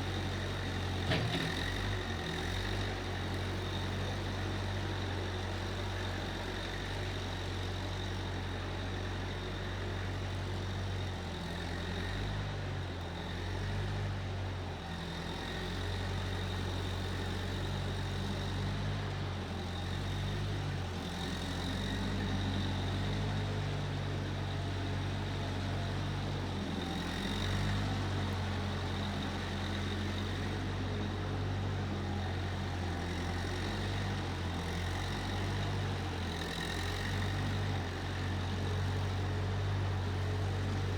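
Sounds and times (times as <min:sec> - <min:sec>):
skid steer engine running: 0:00.0 - 0:40.9.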